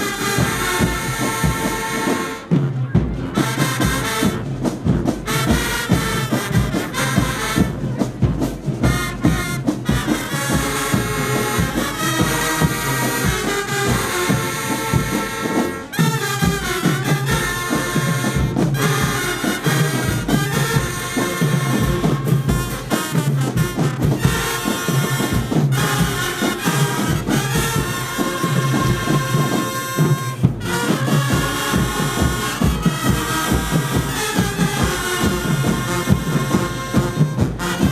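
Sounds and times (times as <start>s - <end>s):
marching band playing: 0.0s - 37.9s.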